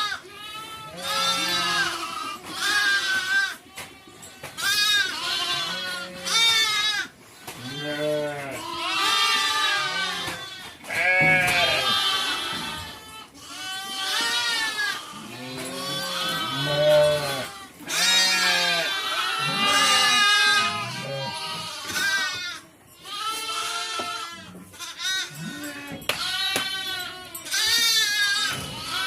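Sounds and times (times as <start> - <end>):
sheep and goats bleating: 0.0 - 29.0.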